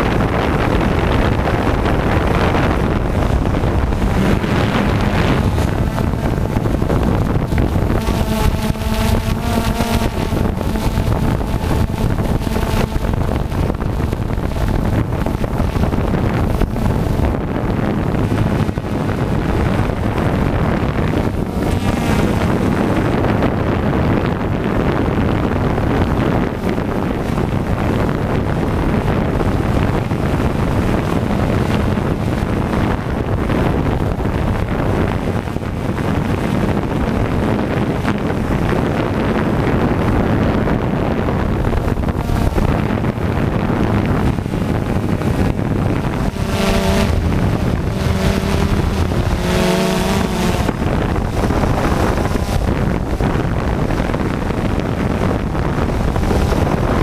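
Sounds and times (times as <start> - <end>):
drone motors and propellers: 0.0 - 57.0
wind noise on microphone: 0.0 - 57.0.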